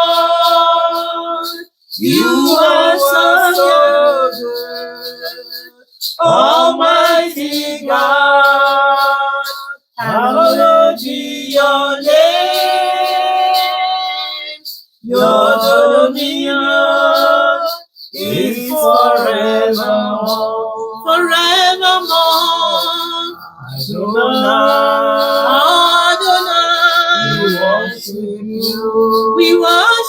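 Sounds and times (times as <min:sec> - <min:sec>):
person singing a worship song: 0:00.0 - 0:30.0.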